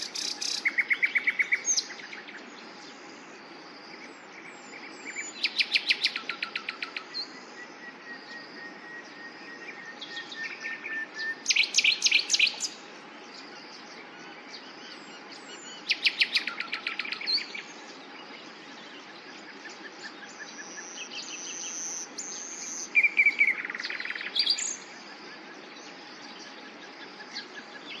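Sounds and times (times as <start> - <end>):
nightingale singing: 0.0 - 28.0.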